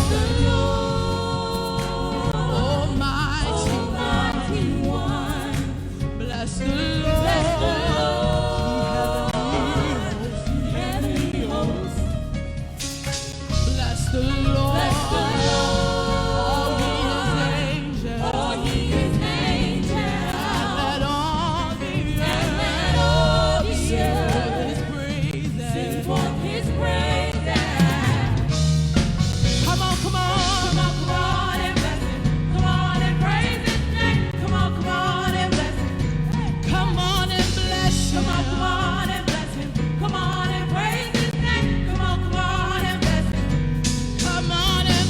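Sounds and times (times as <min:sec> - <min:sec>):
band with steady bass line: 0:00.0 - 0:45.0
voices singing gospel: 0:00.0 - 0:45.0.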